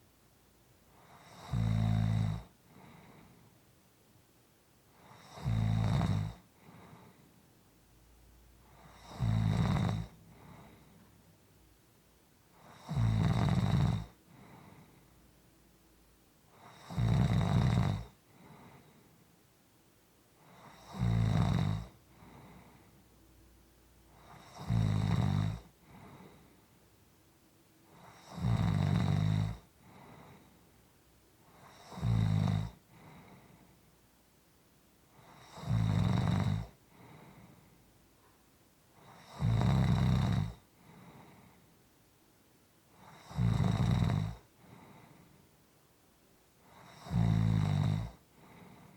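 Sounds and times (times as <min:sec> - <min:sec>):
quiet breathing: 0:00.0 - 0:34.4, 0:35.0 - 0:45.8, 0:46.4 - 0:48.9.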